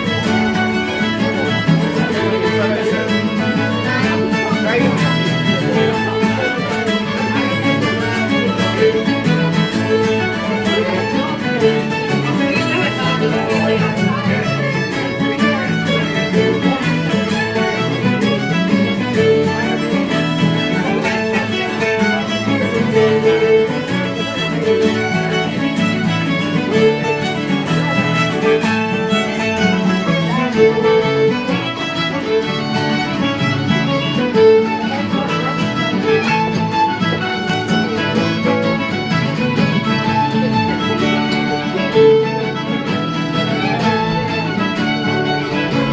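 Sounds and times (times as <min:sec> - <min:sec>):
fiddle playing a jig: 0:00.0 - 0:45.9
guitar accompaniment: 0:00.0 - 0:45.9.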